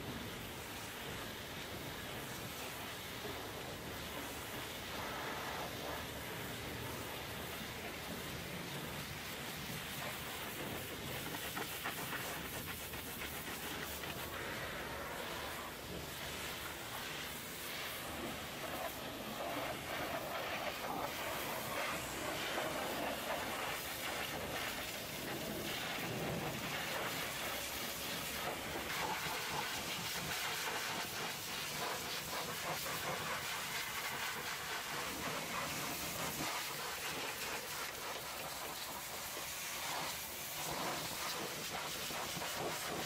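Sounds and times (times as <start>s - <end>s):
pressure washer jet hissing: 2.0s - 43.0s.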